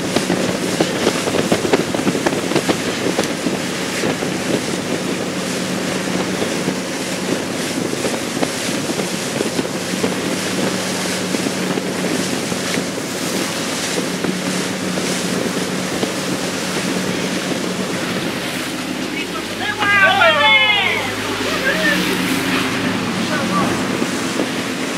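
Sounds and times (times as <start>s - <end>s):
boat engine droning: 0.0s - 24.9s
churning wake rushing: 0.0s - 24.9s
wind buffeting microphone: 0.0s - 24.9s.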